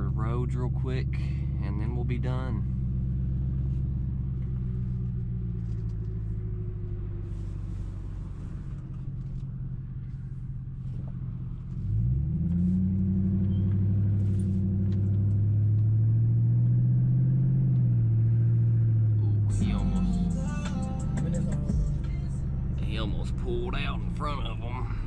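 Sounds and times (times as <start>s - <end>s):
car exhaust rumble: 0.0s - 25.0s.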